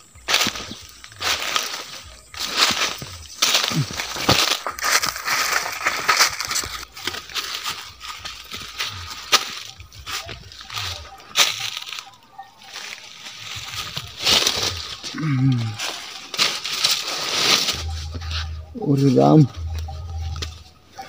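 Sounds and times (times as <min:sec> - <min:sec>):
footsteps crunching dry leaves: 0:00.0 - 0:20.8.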